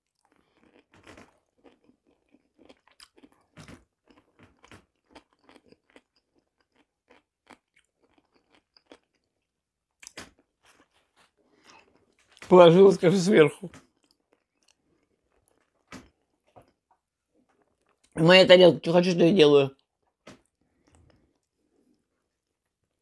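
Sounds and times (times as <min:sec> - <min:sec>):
chewing mouth clicks and smacks: 0:00.0 - 0:12.5, 0:13.8 - 0:18.2, 0:19.8 - 0:23.0.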